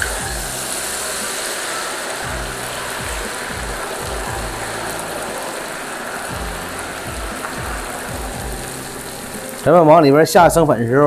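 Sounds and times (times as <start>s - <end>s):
oil sizzling in a wok: 0.0s - 10.4s
background music with bass line: 0.0s - 11.0s.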